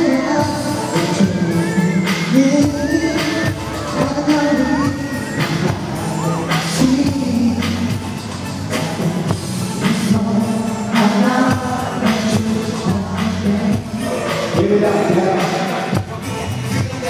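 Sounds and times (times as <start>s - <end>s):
man singing into microphone: 0.0s - 8.0s, 8.7s - 16.0s
pop backing music with beat: 0.0s - 17.0s.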